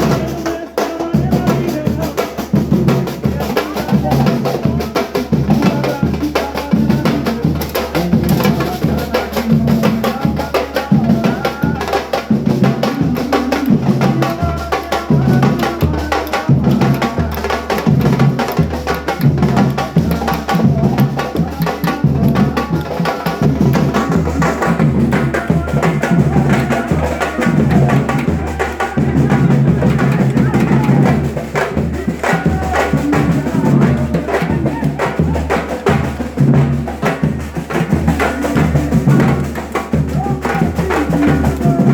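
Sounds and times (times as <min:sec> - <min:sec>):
group of drums playing: 0:00.0 - 0:41.9.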